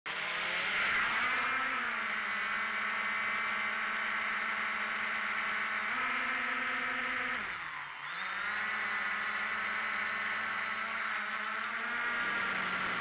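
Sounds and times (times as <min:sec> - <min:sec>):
quadcopter propellers buzzing: 0:00.1 - 0:13.0.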